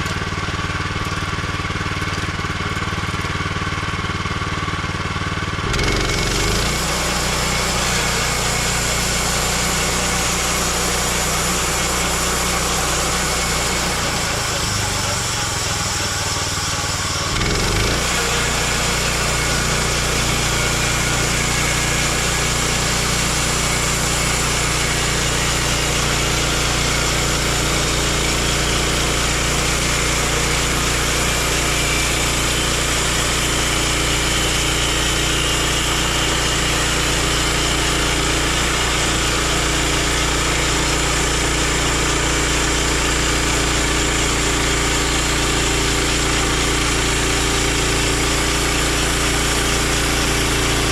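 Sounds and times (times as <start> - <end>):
gas engine running: 0.0 - 50.9
band blade sawing log: 5.6 - 50.9.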